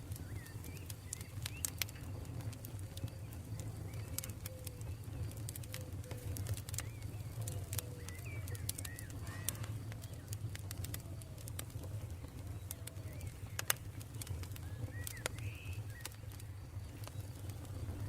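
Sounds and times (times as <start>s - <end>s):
campfire crackling and popping: 0.0s - 18.0s
birds chirping: 0.1s - 18.0s.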